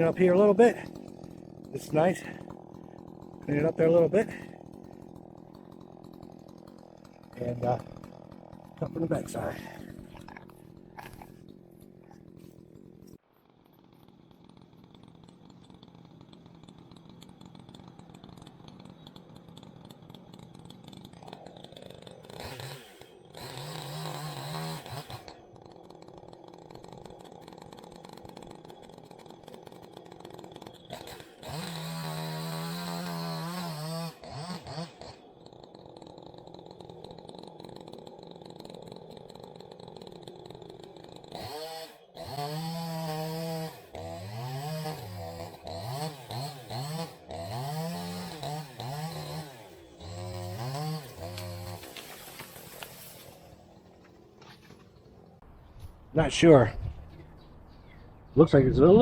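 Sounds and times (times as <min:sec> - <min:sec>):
chainsaw engine revving: 0:00.0 - 0:55.5.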